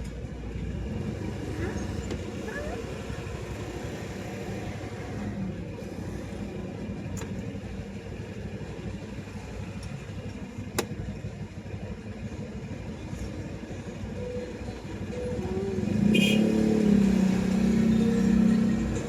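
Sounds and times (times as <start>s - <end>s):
cars and motorbikes passing: 0.0s - 10.4s, 12.8s - 19.0s.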